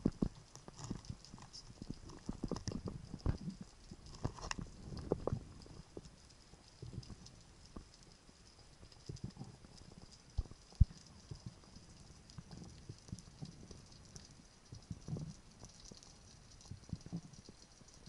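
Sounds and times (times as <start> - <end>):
faint high crackle: 0.0 - 18.0.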